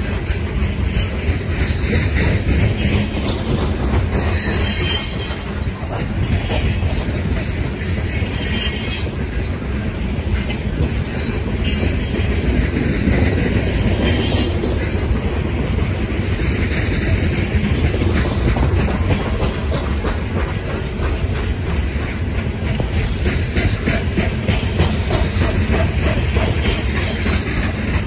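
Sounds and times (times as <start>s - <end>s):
train wheels rumbling on rail: 0.0s - 28.0s
wheel clicks on rail: 0.0s - 28.0s.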